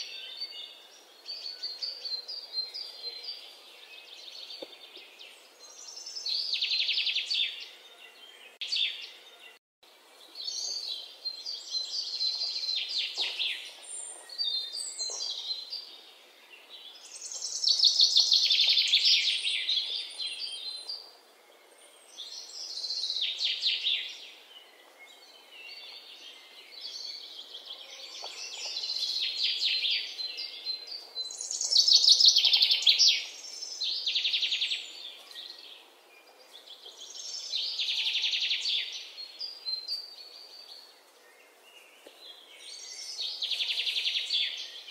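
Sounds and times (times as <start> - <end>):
birds chirping and trilling: 0.0 - 9.6, 10.2 - 44.9.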